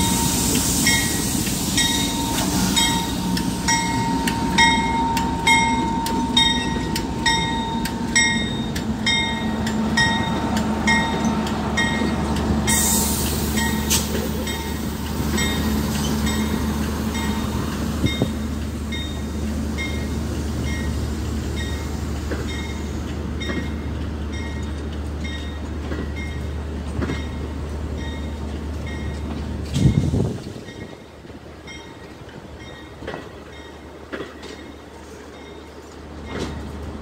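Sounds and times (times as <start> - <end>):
train carriages rumbling: 0.0 - 37.0.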